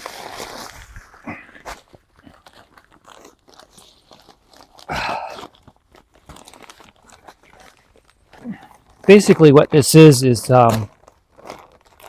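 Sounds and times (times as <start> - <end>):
clay granules crunching in bag: 0.0 - 12.0.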